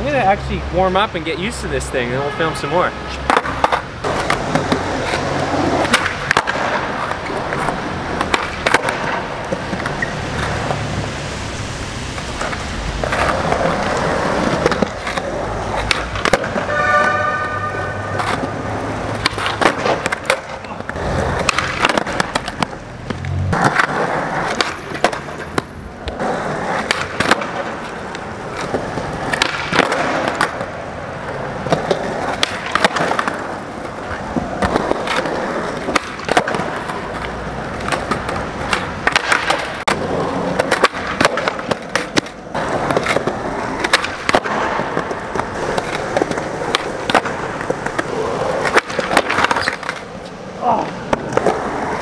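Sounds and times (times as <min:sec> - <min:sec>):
skateboard rolling on concrete: 0:00.0 - 0:52.0
skateboard clacks: 0:03.1 - 0:11.0, 0:12.2 - 0:52.0.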